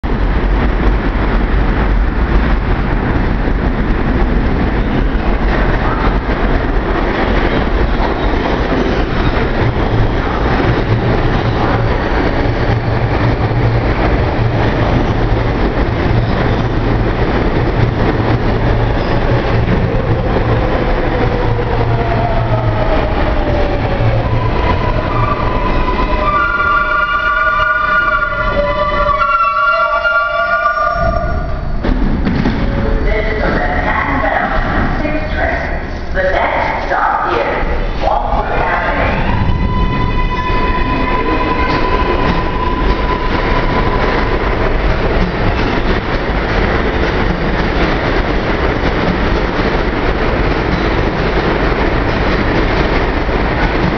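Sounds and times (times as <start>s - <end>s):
subway train wheels rumbling: 0.0s - 53.9s.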